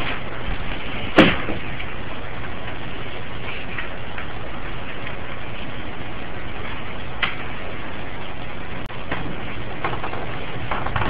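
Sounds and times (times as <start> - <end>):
ceiling fan whirring: 0.0 - 11.0.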